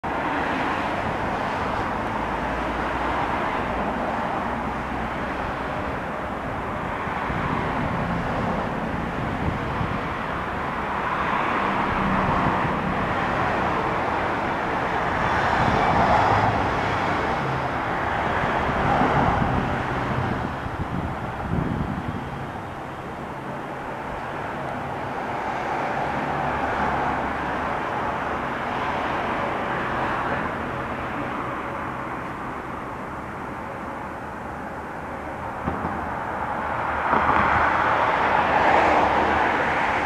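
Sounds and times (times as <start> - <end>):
road traffic noise: 0.0 - 40.0.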